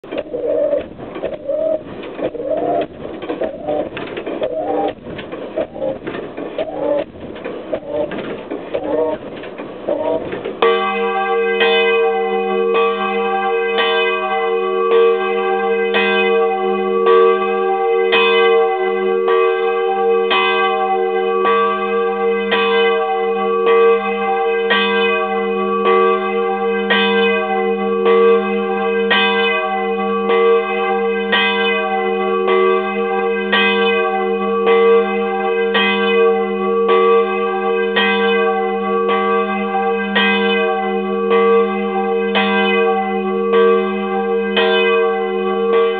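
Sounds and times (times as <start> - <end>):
church bell ringing: 0.0 - 45.9.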